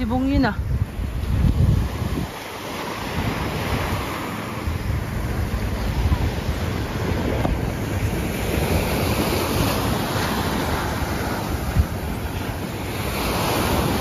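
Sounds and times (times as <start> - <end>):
sea waves washing: 0.0 - 14.0
wind buffeting microphone: 0.0 - 14.0.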